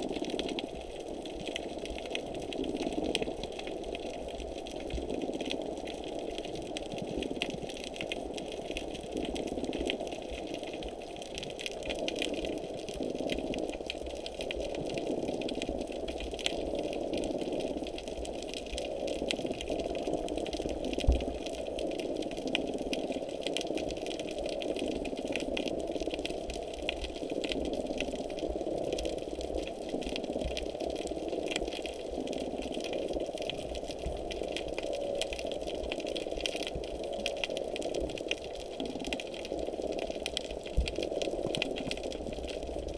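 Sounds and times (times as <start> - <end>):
crackle of small clicks: 0.0 - 42.9.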